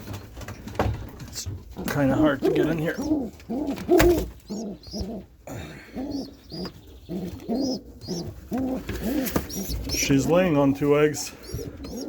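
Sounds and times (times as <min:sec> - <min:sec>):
pigeons cooing: 0:01.6 - 0:12.0.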